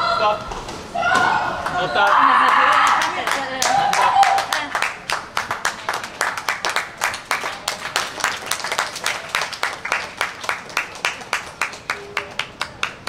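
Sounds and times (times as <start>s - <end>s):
people clapping: 1.6s - 13.0s.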